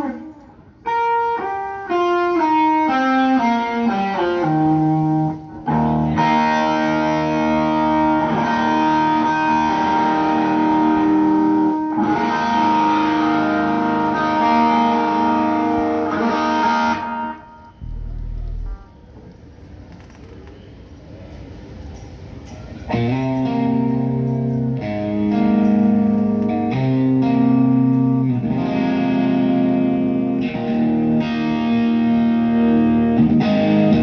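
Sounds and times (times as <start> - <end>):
electric guitar with effects: 0.0 - 19.2, 22.9 - 34.0.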